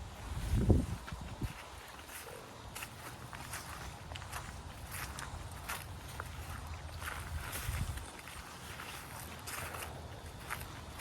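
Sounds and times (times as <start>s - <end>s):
faint outdoor hiss: 0.0s - 11.0s
footsteps on leaves: 0.0s - 11.0s.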